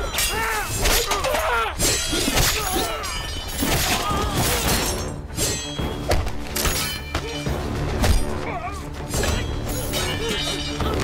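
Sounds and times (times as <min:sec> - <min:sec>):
background music: 0:00.0 - 0:11.0
swords clashing: 0:00.0 - 0:11.0.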